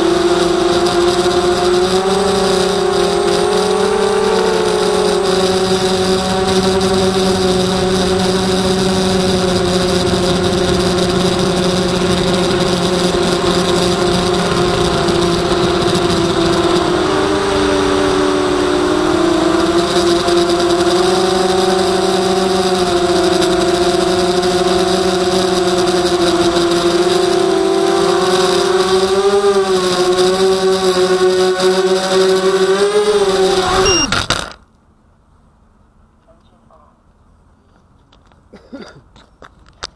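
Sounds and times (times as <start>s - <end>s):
drone motors whining: 0.0s - 34.6s.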